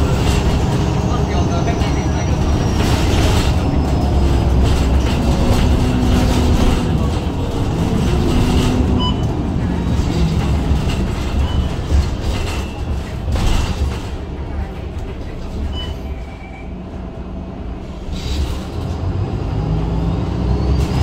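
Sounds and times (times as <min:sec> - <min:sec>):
bus engine drone: 0:00.0 - 0:21.0
road rumble: 0:00.0 - 0:21.0.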